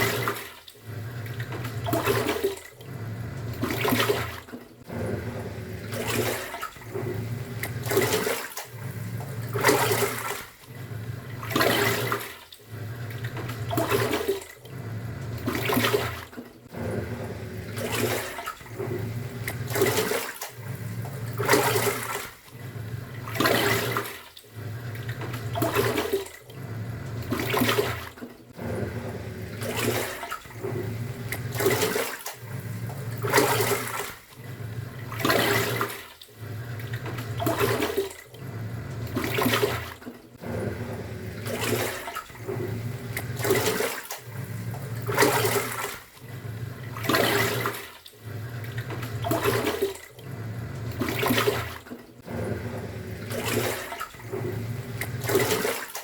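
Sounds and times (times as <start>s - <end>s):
washing machine motor humming: 0.0s - 56.0s
water sloshing in drum: 0.0s - 56.0s.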